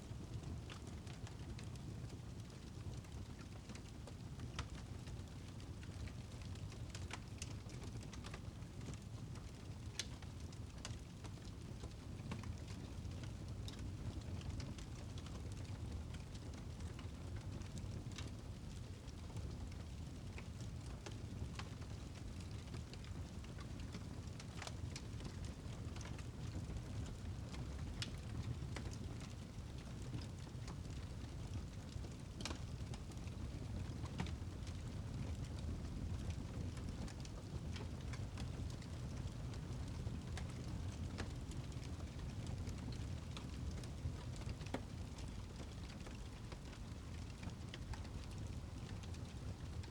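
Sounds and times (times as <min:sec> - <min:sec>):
wood fire crackling and popping: 0:00.1 - 0:49.9.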